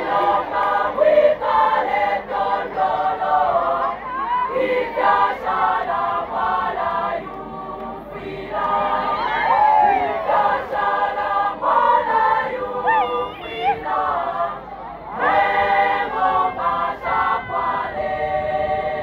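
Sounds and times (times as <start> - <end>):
choir singing in harmony: 0.0 - 19.0.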